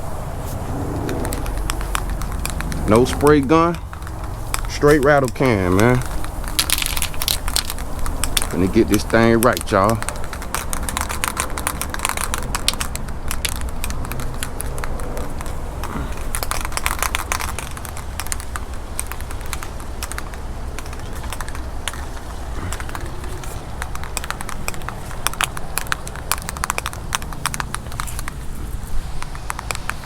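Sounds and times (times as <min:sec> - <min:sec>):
spray can ball rattling: 0:00.0 - 0:30.0
wind rumble on microphone: 0:00.0 - 0:30.0.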